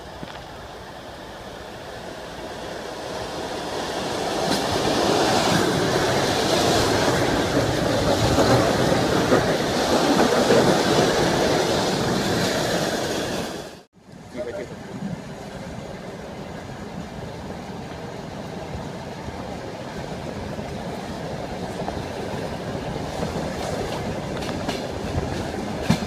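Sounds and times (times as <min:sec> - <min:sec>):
electric train rumbling past: 0:00.0 - 0:26.0.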